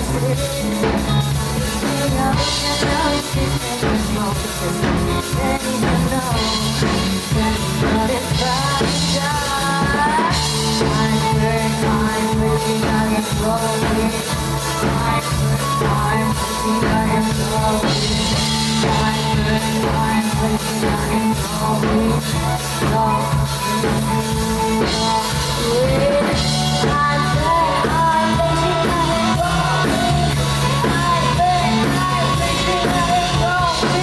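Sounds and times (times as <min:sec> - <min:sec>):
instrumental band music with drums: 0:00.0 - 0:34.0.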